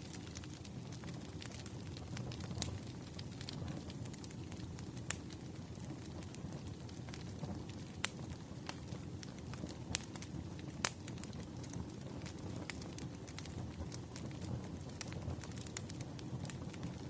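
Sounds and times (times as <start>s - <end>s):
campfire crackling: 0.0s - 17.0s
sharp pops of burning wood: 0.0s - 17.0s.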